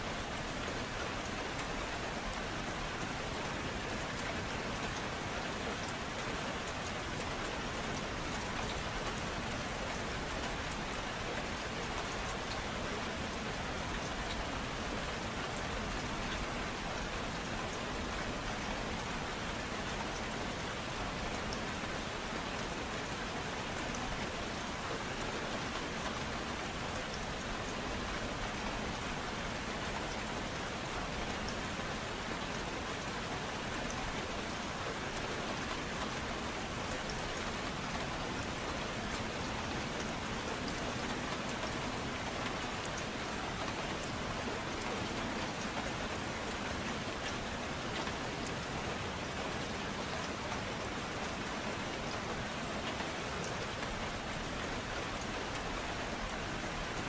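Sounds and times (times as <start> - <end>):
faint ticks of raindrops: 0.0 - 57.0
steady gentle rain: 0.0 - 57.0.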